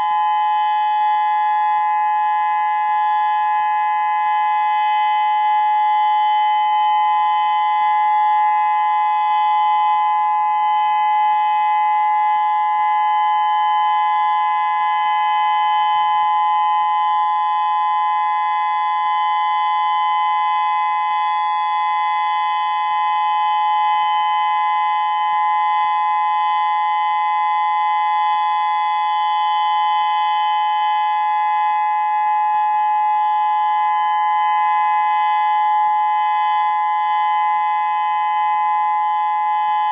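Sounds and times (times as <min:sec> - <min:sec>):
electronic siren steady tone: 0:00.0 - 0:39.9.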